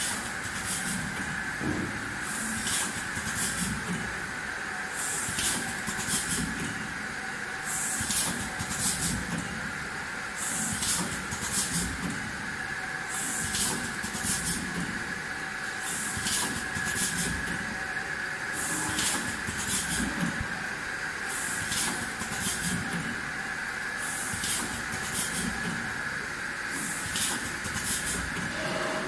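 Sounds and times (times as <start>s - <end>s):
packing machine hum: 0.0s - 29.0s.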